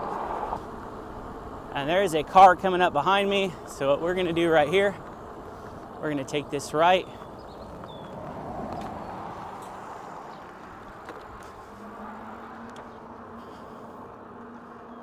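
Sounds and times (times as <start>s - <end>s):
car passing: 0.0s - 15.0s
wind and road noise: 0.0s - 15.0s.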